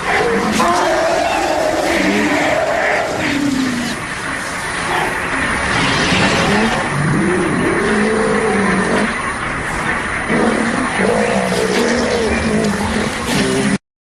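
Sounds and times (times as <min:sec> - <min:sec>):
elephant calls: 0:00.0 - 0:13.8
heavy rough rumble: 0:00.0 - 0:13.8.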